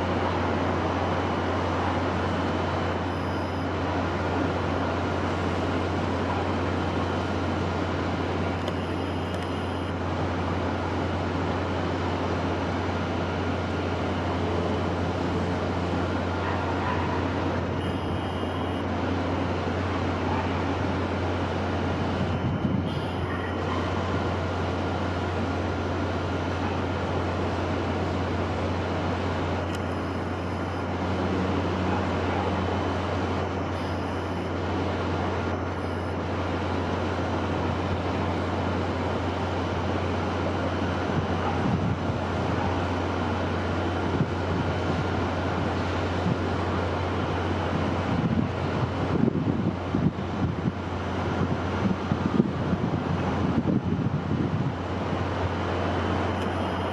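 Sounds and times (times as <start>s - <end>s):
constant low rumble: 0.0s - 56.9s
steady wind noise: 0.0s - 56.9s.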